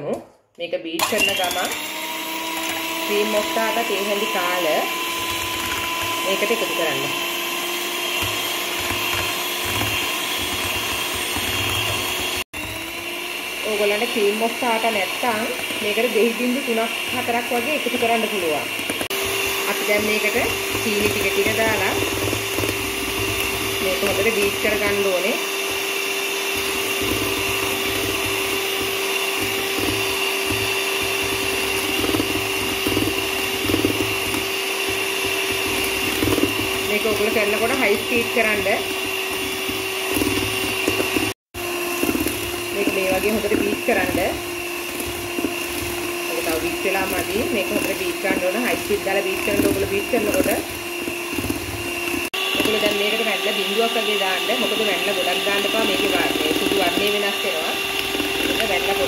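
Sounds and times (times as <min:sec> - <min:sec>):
electric hand mixer whining: 0:01.0 - 0:59.0.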